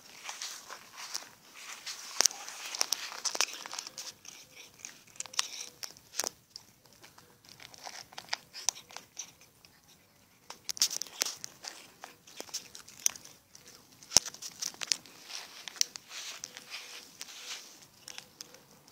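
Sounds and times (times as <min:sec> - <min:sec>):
kitten crunching dry kibble: 0:00.0 - 0:18.9.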